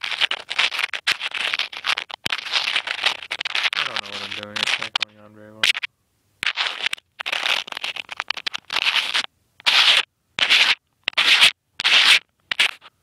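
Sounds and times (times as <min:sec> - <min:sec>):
fingers scraping on device: 0:00.0 - 0:12.9.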